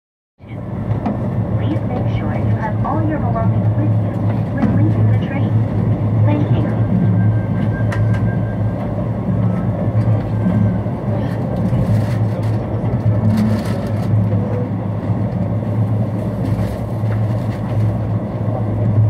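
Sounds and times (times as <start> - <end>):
train rumble inside coach: 0.4 - 19.0.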